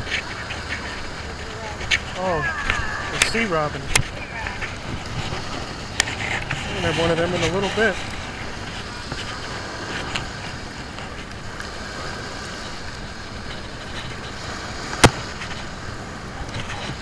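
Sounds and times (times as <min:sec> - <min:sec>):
small waves on sandy shore: 0:00.0 - 0:17.0
wind noise: 0:00.0 - 0:17.0.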